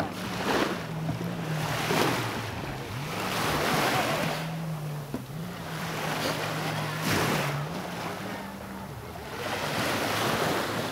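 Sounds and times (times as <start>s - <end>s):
low engine hum: 0.0s - 10.9s
waves splashing: 0.0s - 10.9s.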